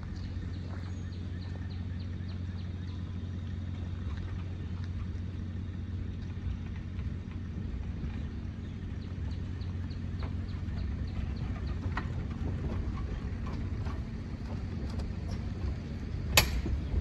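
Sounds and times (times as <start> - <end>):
train coach rolling past: 0.0 - 17.0.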